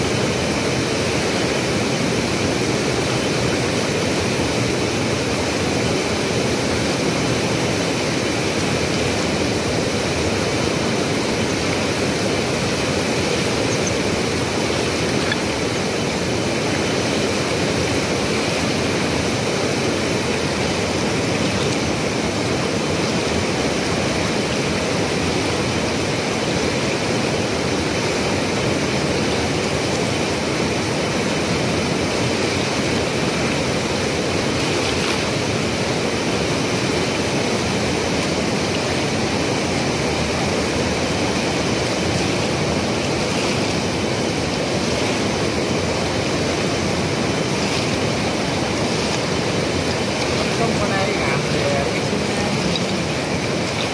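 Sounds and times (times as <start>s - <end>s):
fast-flowing river rushing: 0.0s - 53.9s.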